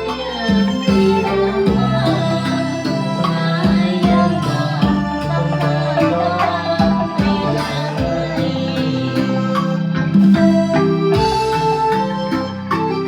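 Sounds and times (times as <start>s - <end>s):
band playing sustained instruments: 0.0s - 13.0s
steady drum beat: 0.0s - 13.0s.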